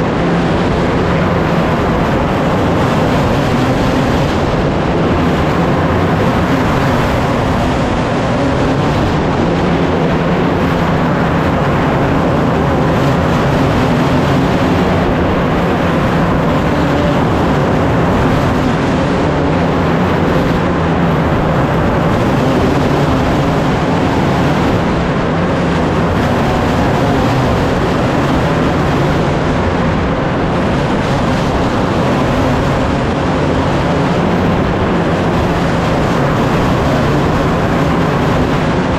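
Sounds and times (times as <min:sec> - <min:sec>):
racing engines droning: 0:00.0 - 0:38.9.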